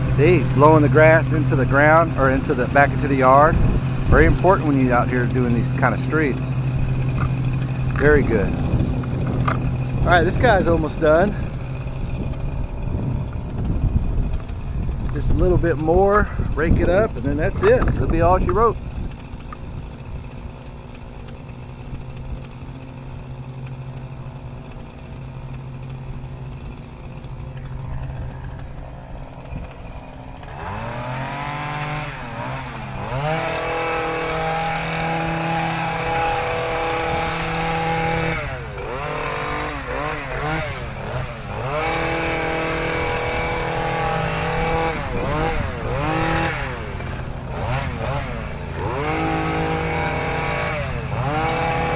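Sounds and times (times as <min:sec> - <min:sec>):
hedge trimmer revving: 0:00.0 - 0:51.9
low engine hum: 0:00.0 - 0:51.9.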